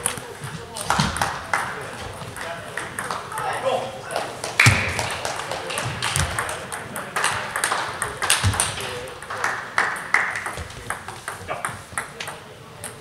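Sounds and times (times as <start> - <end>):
table tennis balls clicking: 0.0 - 3.5, 4.4 - 13.0.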